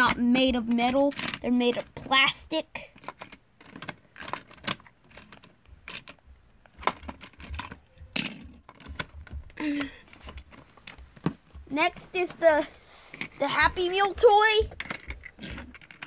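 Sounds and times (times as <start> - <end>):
plastic toy clicks and clatter: 0.0 - 11.0, 13.1 - 16.0.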